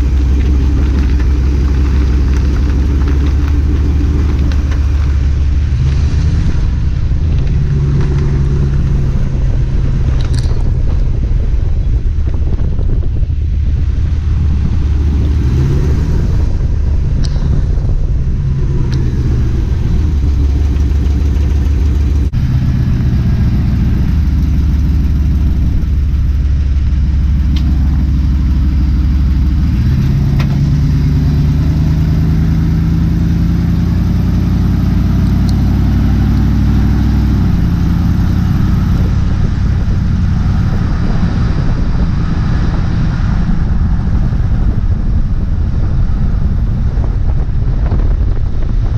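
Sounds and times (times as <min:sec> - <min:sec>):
road noise: 0:00.0 - 0:48.9
van engine while driving: 0:00.0 - 0:48.9.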